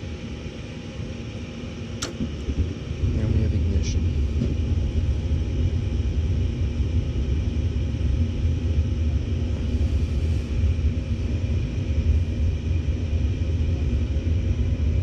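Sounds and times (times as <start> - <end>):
gas furnace burners rumbling: 0.4 - 15.0.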